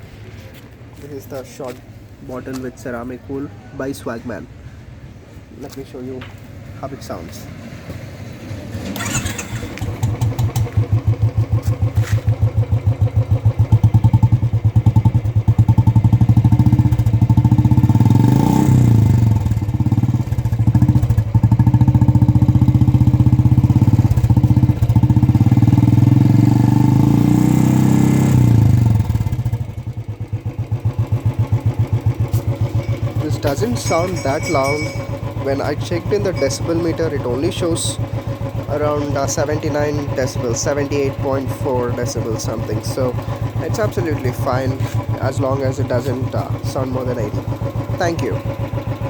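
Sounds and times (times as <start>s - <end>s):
motorcycle engine thumping: 7.8s - 27.2s, 27.8s - 49.0s.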